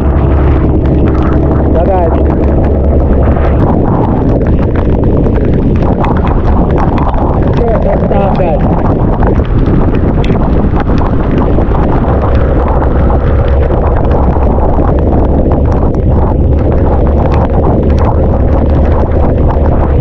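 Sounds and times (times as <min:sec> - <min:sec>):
boat engine running: 0:00.0 - 0:20.0
wind buffeting microphone: 0:00.0 - 0:20.0.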